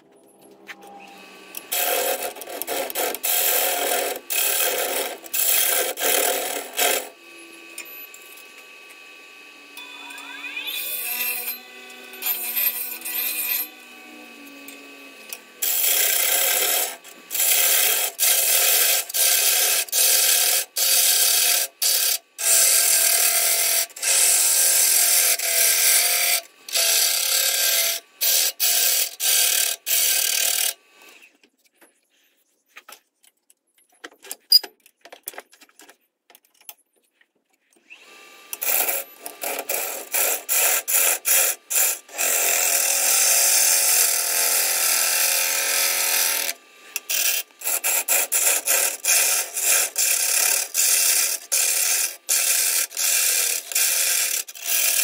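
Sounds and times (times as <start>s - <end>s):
gouge cutting wood on lathe: 1.5s - 7.9s, 8.5s - 31.2s, 38.0s - 55.0s.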